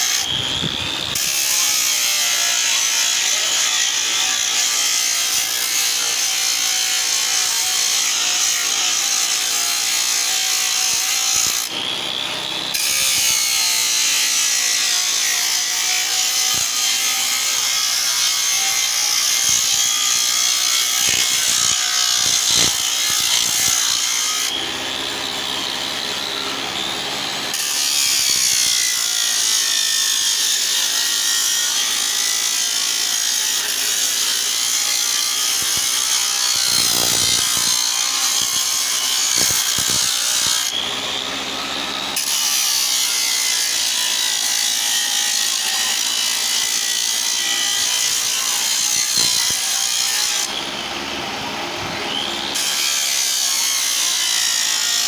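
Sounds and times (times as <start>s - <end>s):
angle grinder motor whine: 0.0s - 55.0s.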